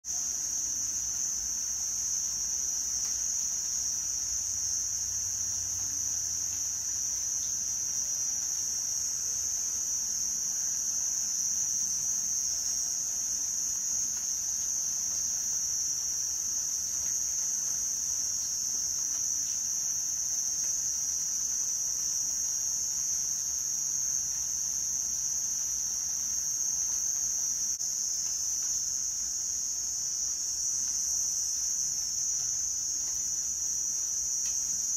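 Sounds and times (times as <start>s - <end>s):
night insects trilling: 0.1s - 34.9s.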